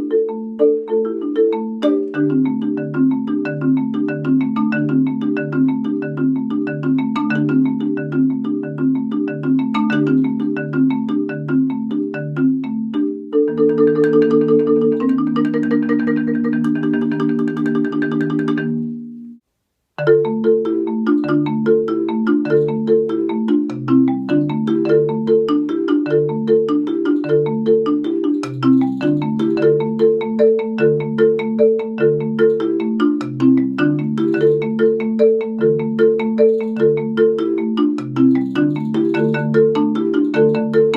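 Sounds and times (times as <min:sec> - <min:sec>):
marimba playing: 0:00.0 - 0:19.4, 0:20.0 - 0:40.9.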